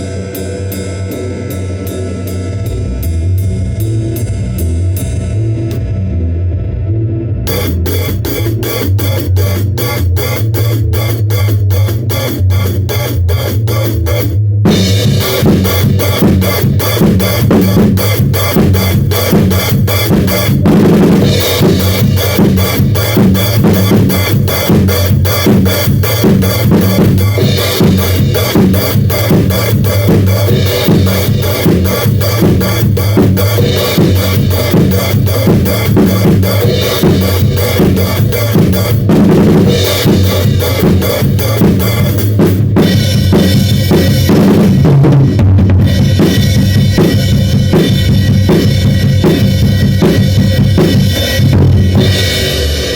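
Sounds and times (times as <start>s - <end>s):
drum kit playing a beat: 0.0s - 6.1s, 7.4s - 52.9s.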